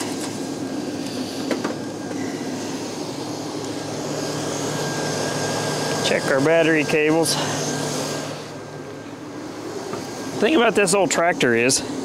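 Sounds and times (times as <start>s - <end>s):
diesel engine slowly cranking: 0.0s - 12.0s.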